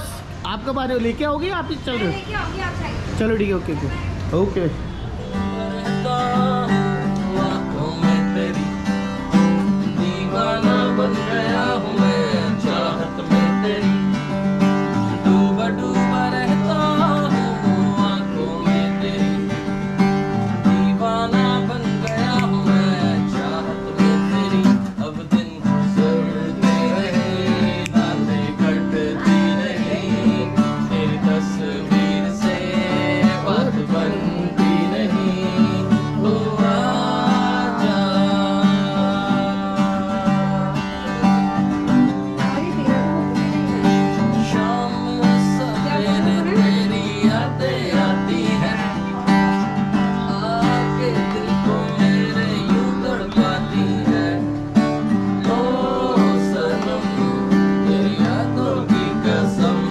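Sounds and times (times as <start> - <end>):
acoustic guitar strumming: 0.0 - 59.9
man singing: 5.1 - 59.9.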